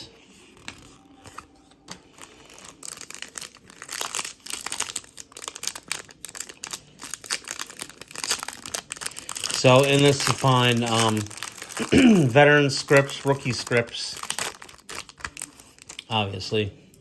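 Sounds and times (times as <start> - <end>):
plastic wrapper crinkling and tearing: 0.3 - 16.6.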